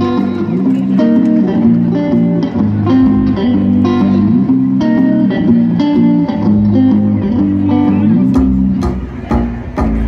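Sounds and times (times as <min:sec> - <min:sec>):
plucked bass line: 0:00.0 - 0:10.0
rockabilly band playing: 0:00.0 - 0:10.0.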